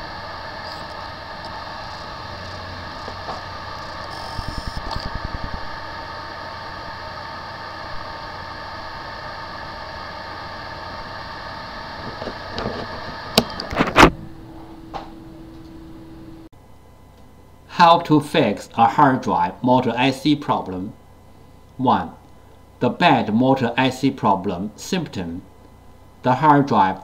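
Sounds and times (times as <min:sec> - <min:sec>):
hard drive electrical hum: 0:00.0 - 0:27.0.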